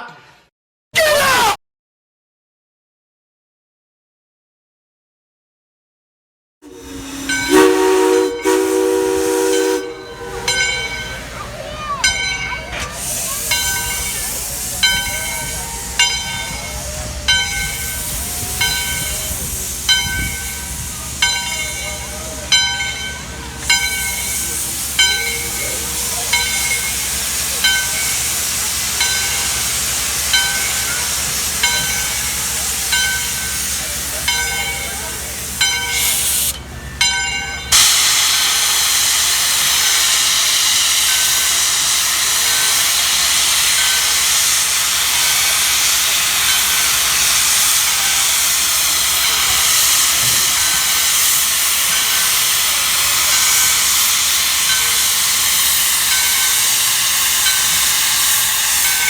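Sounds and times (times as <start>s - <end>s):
loud steam hiss: 6.6s - 59.0s
locomotive bell ringing: 6.7s - 59.0s.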